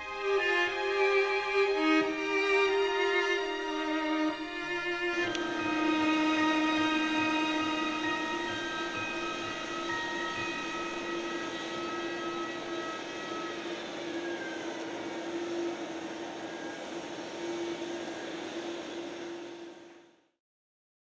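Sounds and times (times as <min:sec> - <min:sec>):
soft background music: 0:00.0 - 0:16.8
jet engines droning: 0:00.0 - 0:20.2.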